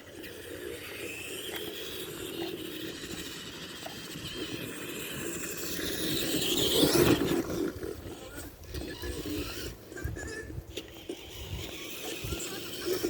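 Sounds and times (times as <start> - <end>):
rc truck motor whine: 0.0 - 9.8, 11.0 - 13.0.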